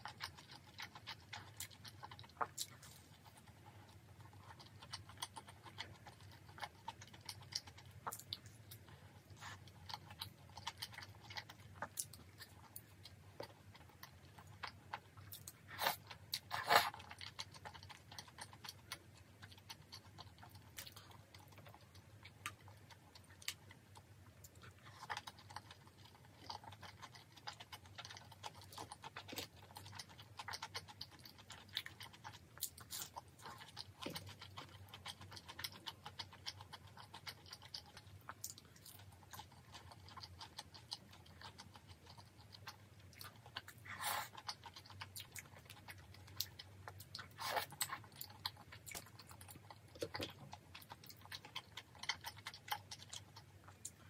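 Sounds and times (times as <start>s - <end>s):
chewing and wet mouth clicks: 0.0s - 54.0s
low steady hum: 0.0s - 54.0s.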